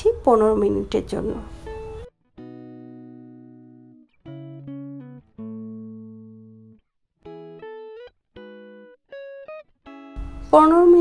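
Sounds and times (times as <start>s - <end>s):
plucked-string melody: 0.5s - 11.0s.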